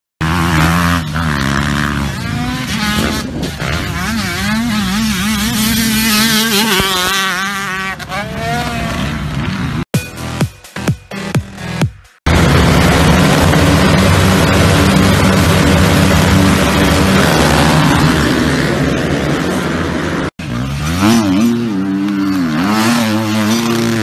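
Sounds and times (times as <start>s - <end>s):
dirt bike engines revving: 0.2s - 10.4s, 11.6s - 24.0s.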